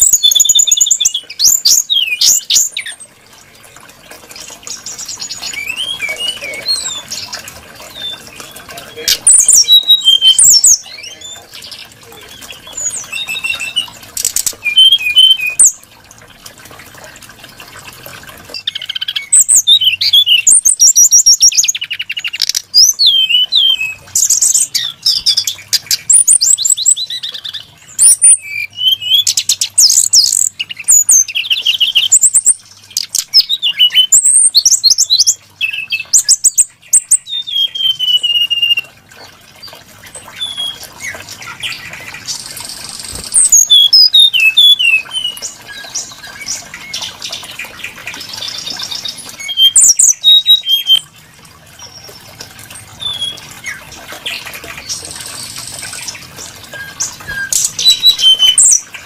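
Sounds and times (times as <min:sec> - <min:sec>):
bird singing whistles and trills: 0:00.0 - 0:03.0, 0:04.4 - 0:15.8, 0:18.6 - 0:39.0, 0:40.2 - 0:51.1, 0:53.0 - 0:58.9.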